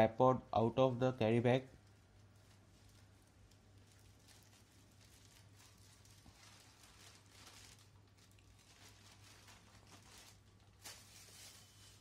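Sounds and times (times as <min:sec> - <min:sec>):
low steady hum: 0:00.0 - 0:12.0
rustling of bag and plastic: 0:01.6 - 0:12.0.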